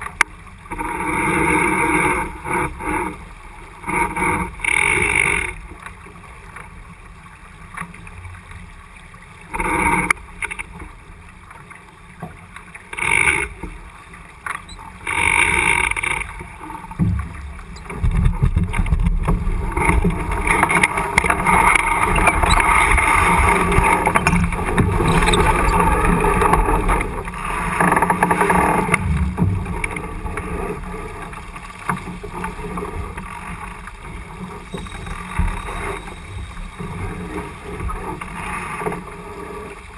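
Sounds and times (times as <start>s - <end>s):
water rushing past boat: 0.0s - 39.9s.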